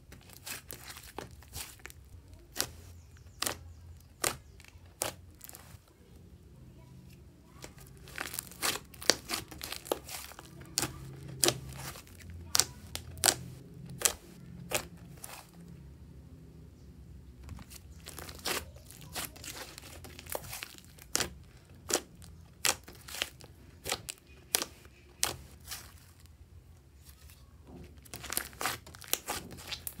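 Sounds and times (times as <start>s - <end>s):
slime popping and crackling: 0.1s - 5.8s, 7.6s - 15.5s, 17.5s - 26.1s, 28.0s - 30.0s.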